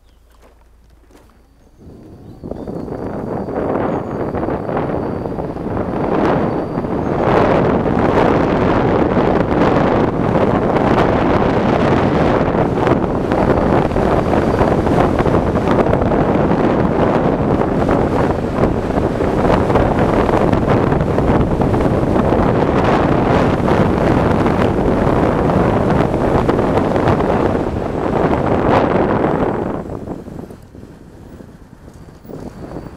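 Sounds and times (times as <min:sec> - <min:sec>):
wind on microphone: 0:00.0 - 0:32.9.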